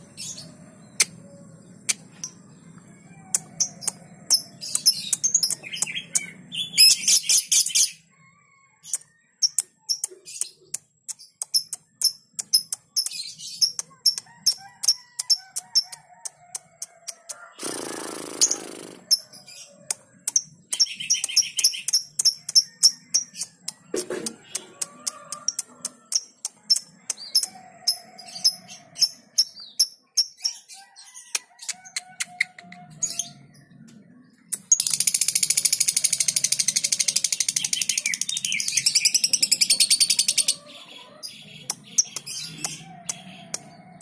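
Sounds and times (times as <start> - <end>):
small birds chirping: 0.0 - 8.2, 8.8 - 44.0.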